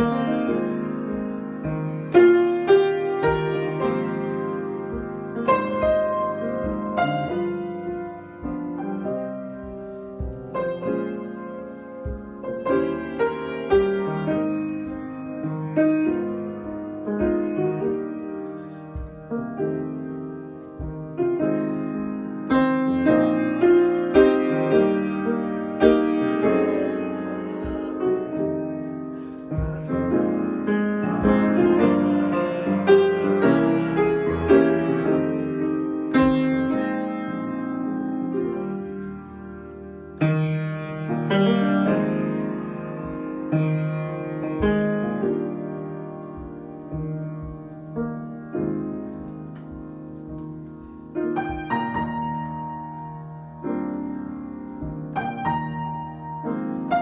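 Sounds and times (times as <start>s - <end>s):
solo piano playing: 0.0s - 57.0s.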